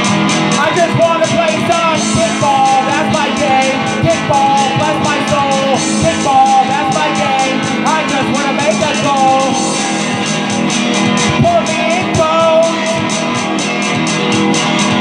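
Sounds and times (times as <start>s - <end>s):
rock music with guitar and drums: 0.0s - 15.0s
steady cymbal beat: 0.0s - 15.0s
wavering held melody line: 0.9s - 15.0s.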